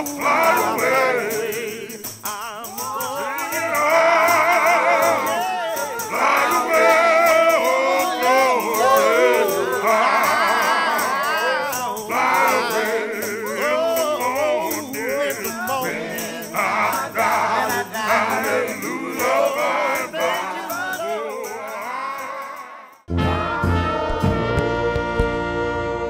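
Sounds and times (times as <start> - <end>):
rattling percussion beat: 0.0 - 23.2
person singing: 0.0 - 25.4.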